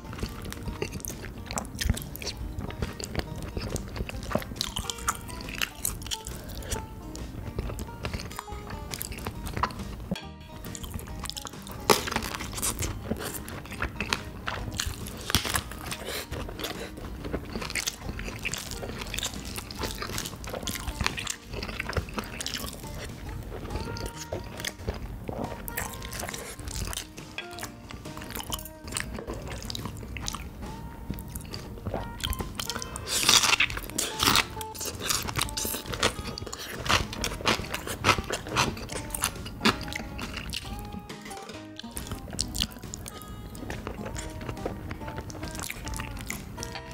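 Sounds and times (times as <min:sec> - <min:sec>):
wet mouth clicks: 0:00.0 - 0:41.0
person biting and chewing food: 0:00.0 - 0:46.9.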